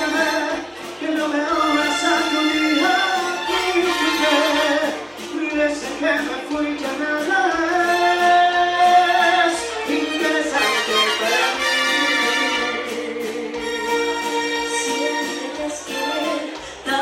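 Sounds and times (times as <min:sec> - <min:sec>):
dance band playing: 0:00.0 - 0:17.0.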